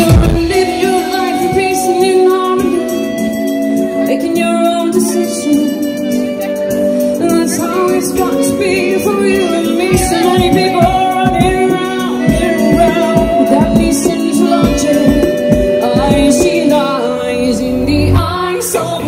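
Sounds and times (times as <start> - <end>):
live pop band: 0.0 - 19.0
woman singing: 0.0 - 19.0.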